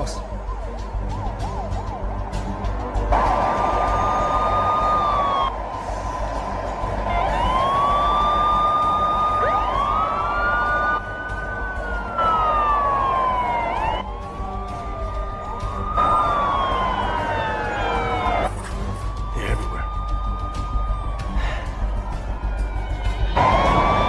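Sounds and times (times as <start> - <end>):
police sirens wailing: 0.0 - 24.0.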